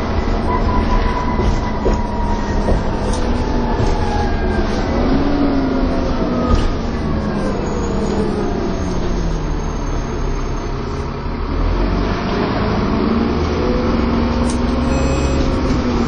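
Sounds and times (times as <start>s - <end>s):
bus engine whining and rumbling: 0.0s - 16.0s.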